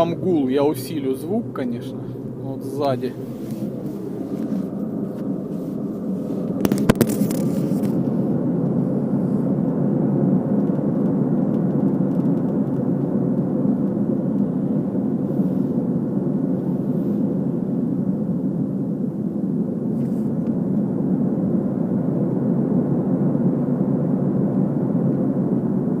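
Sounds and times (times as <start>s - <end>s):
car road noise hum: 0.0s - 25.3s.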